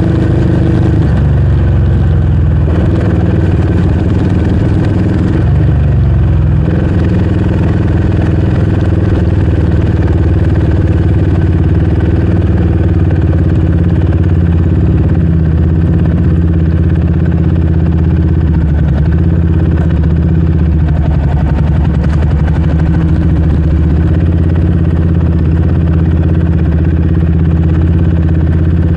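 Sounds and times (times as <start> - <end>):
quad engine running at low revs: 0.0 - 28.9.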